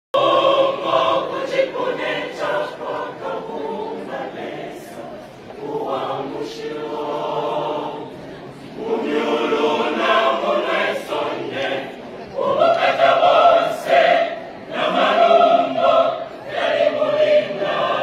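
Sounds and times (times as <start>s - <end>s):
choir singing gospel song: 0.2s - 18.0s.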